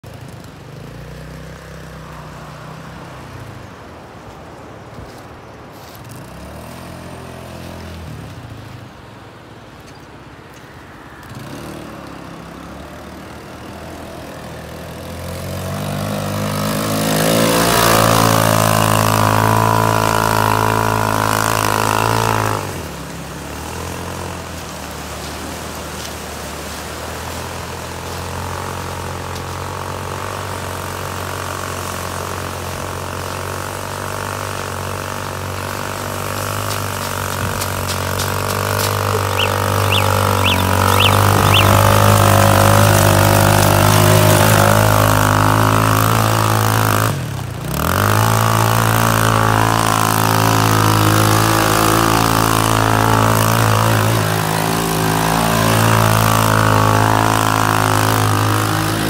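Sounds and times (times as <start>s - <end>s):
quad bike engine running: 0.0s - 3.1s, 11.3s - 59.0s.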